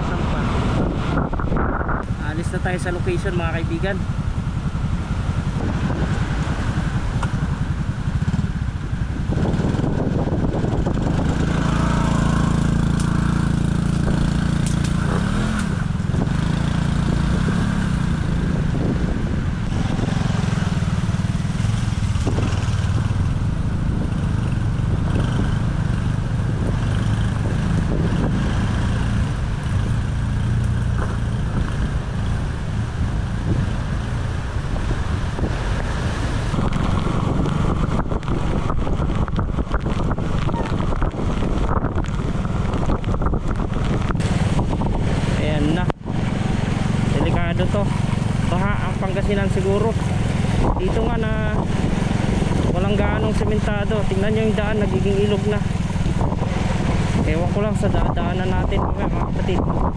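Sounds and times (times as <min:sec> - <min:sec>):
motorcycle engine accelerating: 0:00.0 - 0:59.9
wind noise on microphone: 0:00.0 - 0:59.9.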